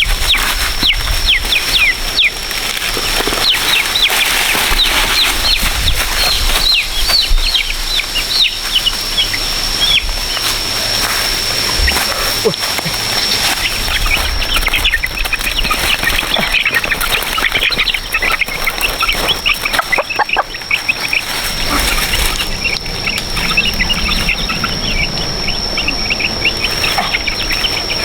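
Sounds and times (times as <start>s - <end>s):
farm animals crying: 0.0s - 28.0s.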